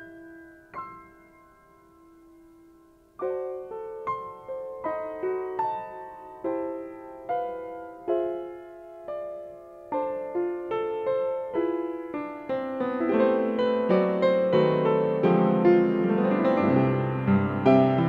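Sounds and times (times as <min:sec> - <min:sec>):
solo piano melody: 0:00.0 - 0:18.0.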